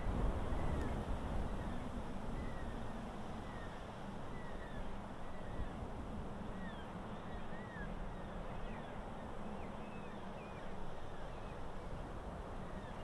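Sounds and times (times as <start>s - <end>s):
wind blowing low rumble: 0.0s - 13.0s
faint birds chirping: 0.4s - 13.0s.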